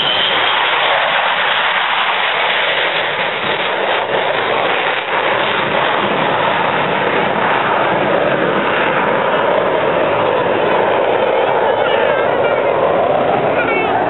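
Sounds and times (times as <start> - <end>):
fighter jet taking off: 0.0 - 14.0.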